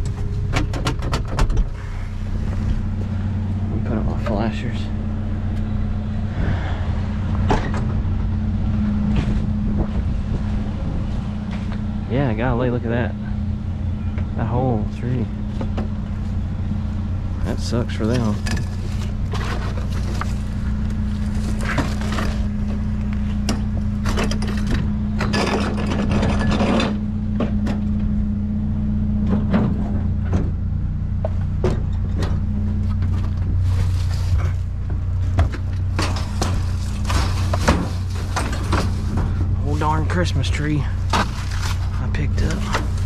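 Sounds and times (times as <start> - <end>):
low engine hum: 0.0 - 43.0
road noise: 0.0 - 43.0.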